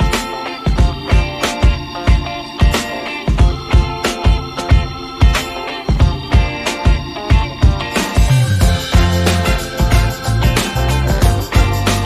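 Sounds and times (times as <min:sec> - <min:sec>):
funky drum beat: 0:00.0 - 0:12.0
sustained instrumental notes: 0:00.0 - 0:12.0.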